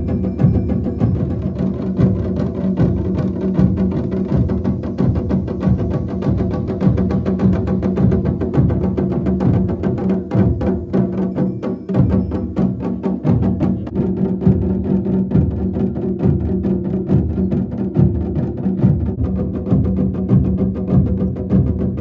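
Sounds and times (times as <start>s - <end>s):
drums beaten fast: 0.0s - 22.0s.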